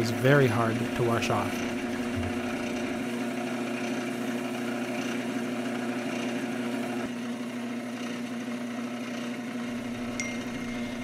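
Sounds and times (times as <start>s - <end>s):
wood lathe humming: 0.0s - 11.0s.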